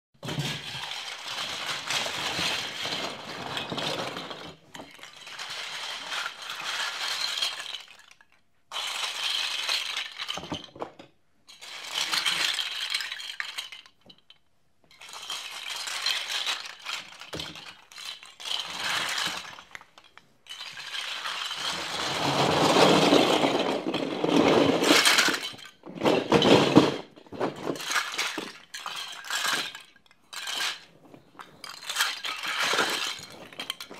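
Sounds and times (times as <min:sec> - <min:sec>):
plastic bricks clattering: 0:00.2 - 0:14.0, 0:15.0 - 0:33.9.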